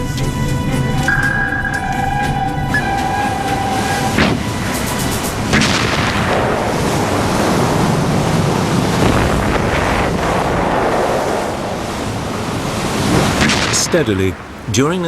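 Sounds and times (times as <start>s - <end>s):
rushing sea: 0.0s - 15.0s
wind: 0.0s - 15.0s.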